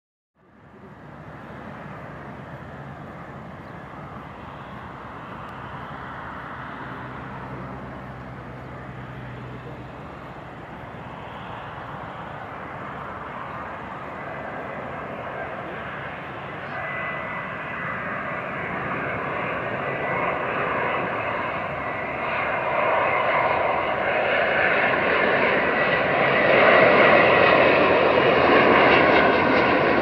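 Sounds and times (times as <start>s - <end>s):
jet engine rumble and hiss: 0.4s - 30.0s.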